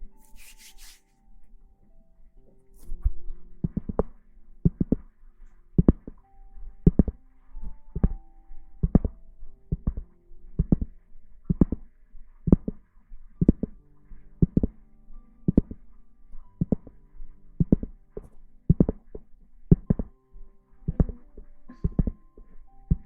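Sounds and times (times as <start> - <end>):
heartbeat thumps: 3.0 - 20.2, 20.8 - 23.0.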